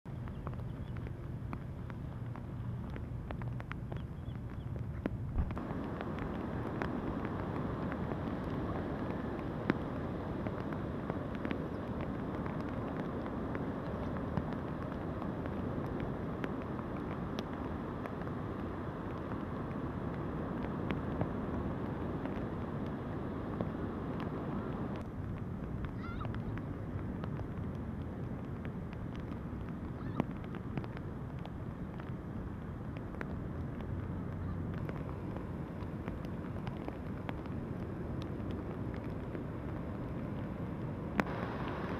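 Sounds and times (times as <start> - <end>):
wind buffeting microphone: 0.1 - 41.9
surf: 0.3 - 41.9.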